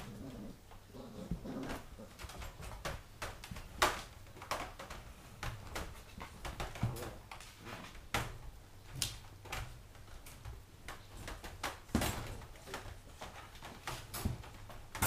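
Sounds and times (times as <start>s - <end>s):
puppies scuffling in wire crate: 0.0s - 15.0s.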